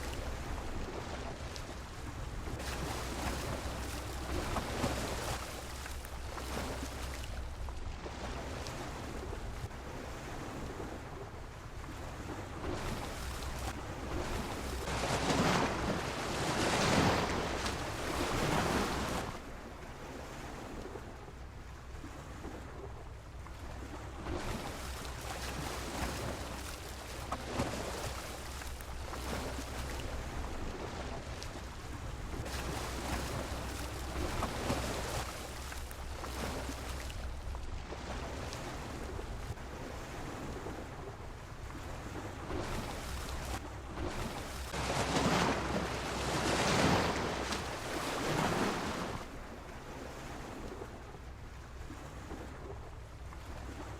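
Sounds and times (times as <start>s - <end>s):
sea waves washing against a pier: 0.0s - 53.9s.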